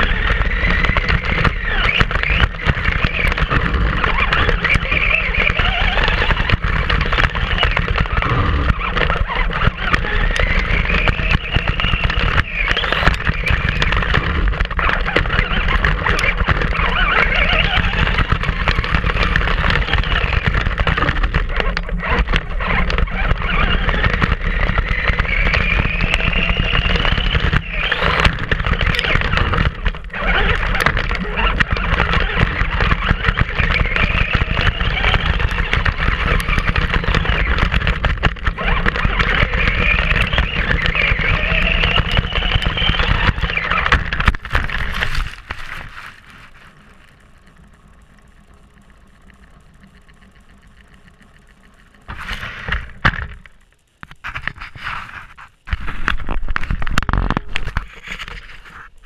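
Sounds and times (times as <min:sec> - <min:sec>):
wind on camera: 0:00.0 - 0:47.6, 0:48.8 - 0:59.0
chassis knocking over bumps: 0:00.0 - 0:54.6
rc truck motor whining: 0:00.0 - 0:59.0
tyres rumbling: 0:00.0 - 0:59.0.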